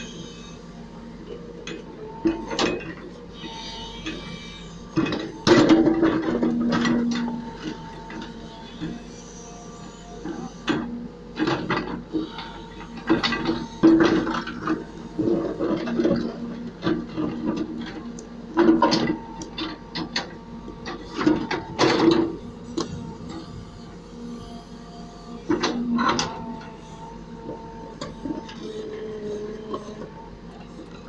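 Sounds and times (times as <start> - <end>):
backhoe loader running: 0.0 - 31.0.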